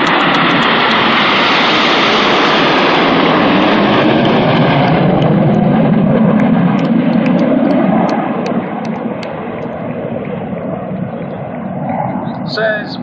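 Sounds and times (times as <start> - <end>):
jets flying over: 0.0 - 13.0.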